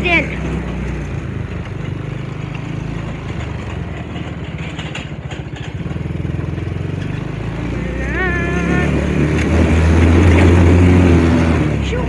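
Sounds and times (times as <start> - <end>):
quad engine pulsing: 0.0 - 12.0.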